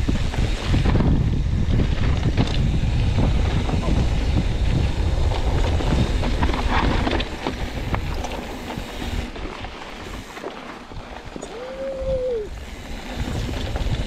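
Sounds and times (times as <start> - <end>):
bike clicks and rattles: 0.0 - 11.6, 12.5 - 14.0
wind buffeting microphone: 0.0 - 14.0.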